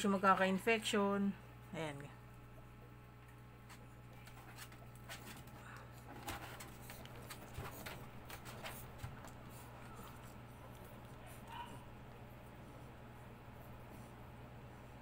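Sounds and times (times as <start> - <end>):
air-conditioner hum: 0.0 - 15.0.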